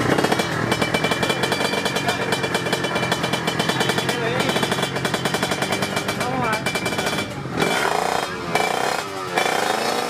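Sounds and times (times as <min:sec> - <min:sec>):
two-stroke motorcycle engine popping: 0:00.0 - 0:10.0.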